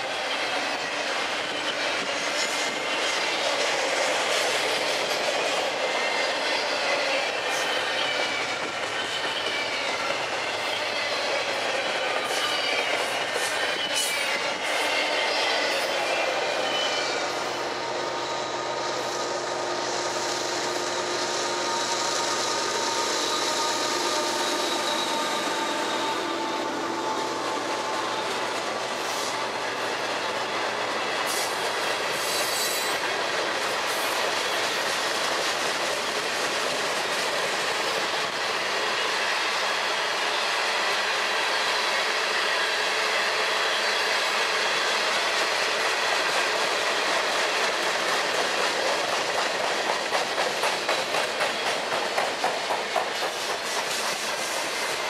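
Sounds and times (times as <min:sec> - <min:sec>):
clickety-clack over rail joints: 0:00.0 - 0:17.5, 0:24.7 - 0:55.0
diesel locomotives passing: 0:00.0 - 0:55.0
steel wheels rolling on rail: 0:00.0 - 0:55.0.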